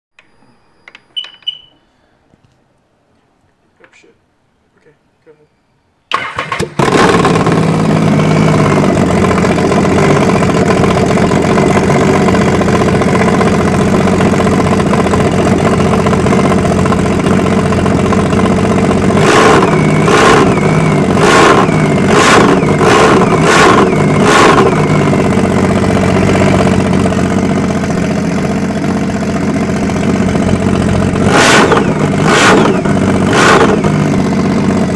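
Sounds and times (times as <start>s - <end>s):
engine throttle blips: 6.1s - 34.9s.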